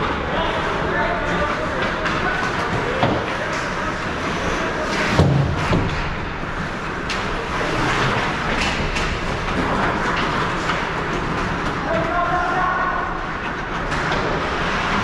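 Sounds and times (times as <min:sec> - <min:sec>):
hockey sticks and puck clacking: 0:00.0 - 0:15.0.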